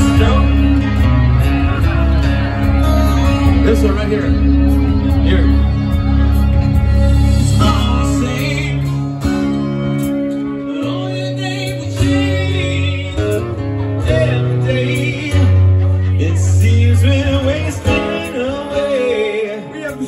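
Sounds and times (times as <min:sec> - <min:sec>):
electric guitar: 0:00.0 - 0:20.0
low bass line: 0:00.0 - 0:20.0
person singing: 0:00.0 - 0:20.0.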